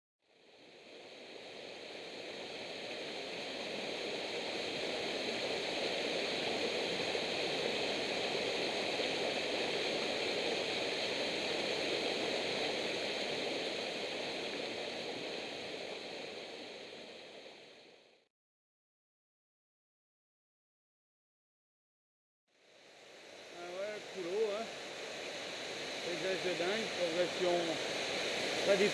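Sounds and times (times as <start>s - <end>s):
water rushing over boulders: 0.5s - 18.2s, 22.8s - 28.9s.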